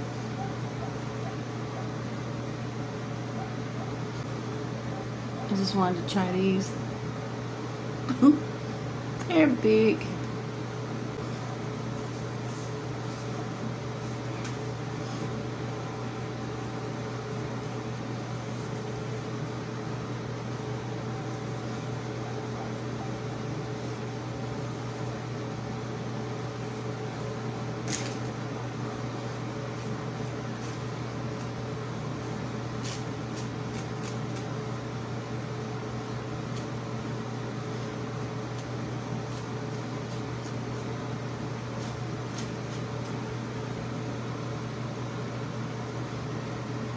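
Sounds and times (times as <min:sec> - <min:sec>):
fan humming: 0:00.0 - 0:46.9.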